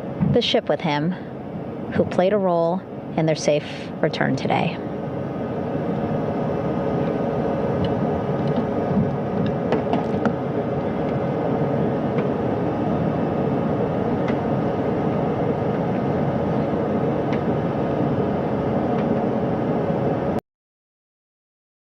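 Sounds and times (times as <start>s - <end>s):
faint steady hum: 0.0s - 20.4s.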